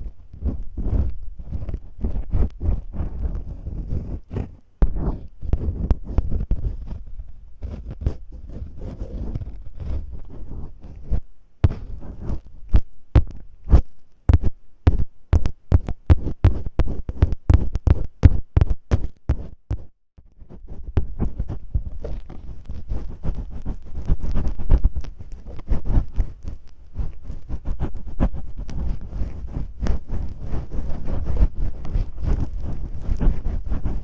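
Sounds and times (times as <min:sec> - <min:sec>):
masking tape crackling on microphone: 0:00.0 - 0:34.0
tape rubbing and rustling: 0:00.0 - 0:34.0.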